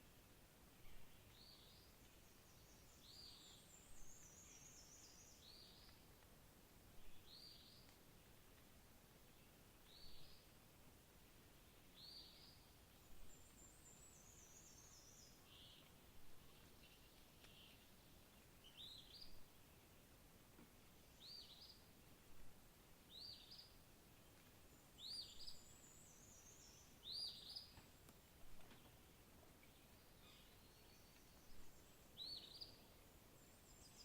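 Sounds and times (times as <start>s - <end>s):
songbird chirps: 0.0s - 34.0s
steady low hiss: 0.0s - 34.0s.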